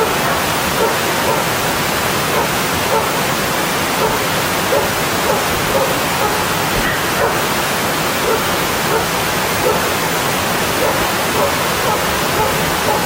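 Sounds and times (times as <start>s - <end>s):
stream rushing over rocks: 0.0s - 13.0s
water gurgling: 0.0s - 13.0s.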